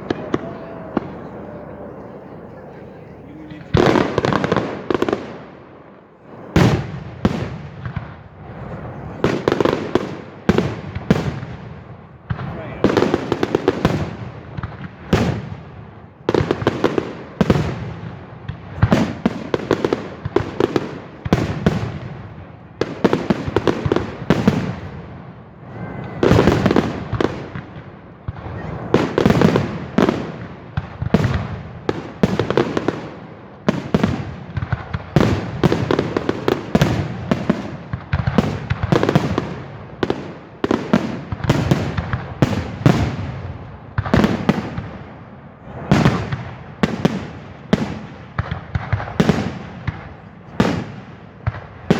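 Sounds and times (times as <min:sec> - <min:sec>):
fireworks bangs echoing: 0:00.0 - 0:51.9.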